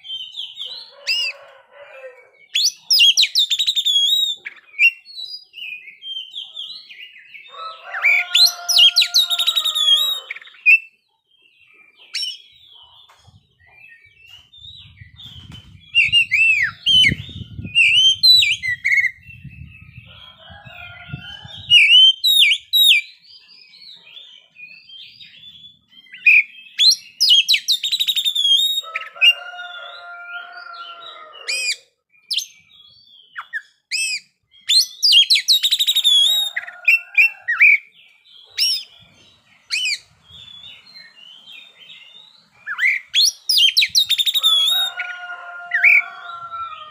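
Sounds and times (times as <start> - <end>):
songbird singing varied song: 0.0 - 46.9.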